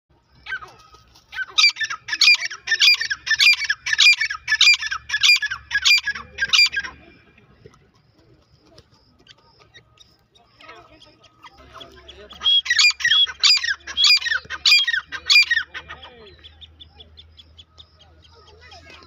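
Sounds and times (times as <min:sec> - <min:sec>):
francolin shrill calls: 0:00.4 - 0:07.1, 0:09.2 - 0:19.0.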